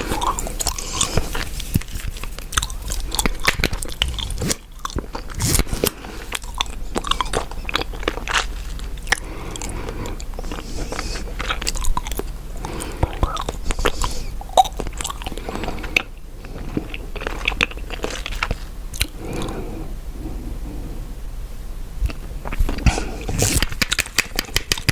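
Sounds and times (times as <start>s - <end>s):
gum chewing wet smacks: 0.0s - 19.6s, 22.0s - 24.9s.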